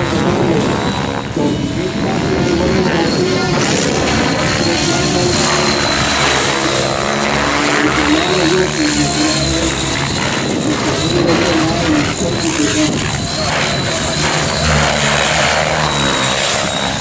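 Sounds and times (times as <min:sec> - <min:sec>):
high electric motor whine: 0:00.0 - 0:17.0
rc helicopter rotor whirring: 0:00.0 - 0:17.0.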